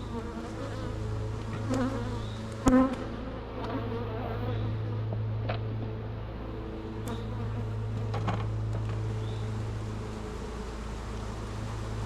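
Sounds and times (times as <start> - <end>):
bees buzzing: 0.0 - 5.6, 6.2 - 12.0.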